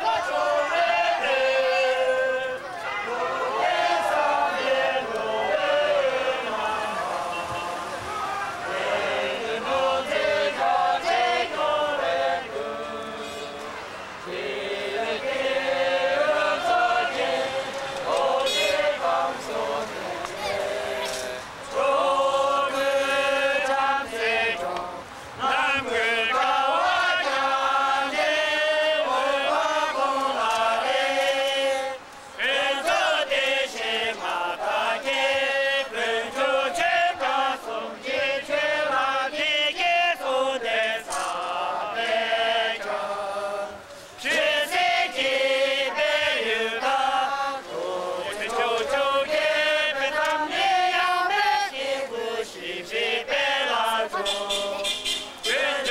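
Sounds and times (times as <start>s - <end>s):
crowd singing in unison: 0.0s - 55.9s.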